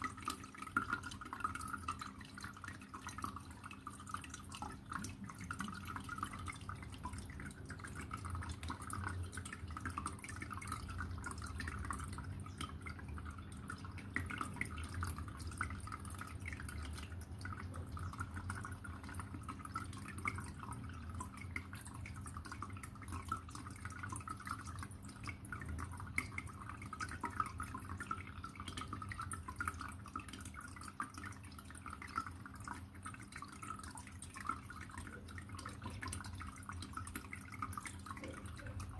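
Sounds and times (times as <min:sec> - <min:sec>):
aquarium water trickling: 0:00.0 - 0:38.9
low steady hum: 0:00.0 - 0:38.9.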